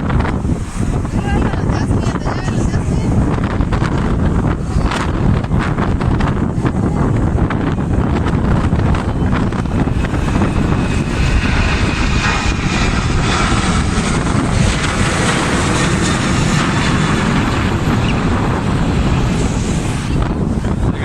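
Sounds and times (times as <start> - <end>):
jet engines roaring at takeoff: 0.0 - 21.0.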